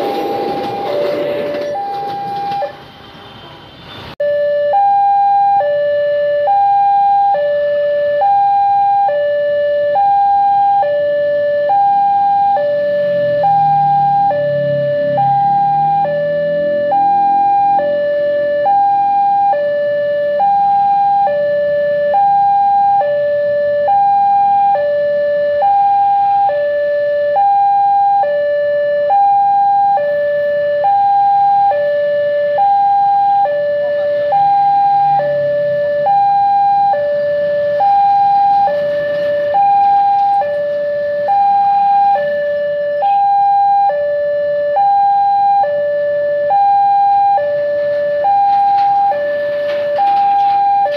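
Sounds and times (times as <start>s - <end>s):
level crossing two-tone alarm: 0.0s - 2.8s, 4.2s - 50.9s
road traffic rumble: 0.0s - 50.9s.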